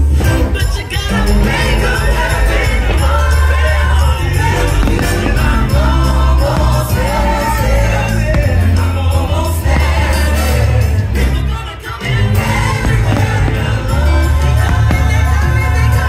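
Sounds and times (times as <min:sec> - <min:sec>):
choir singing over heavy bass: 0:00.0 - 0:16.0.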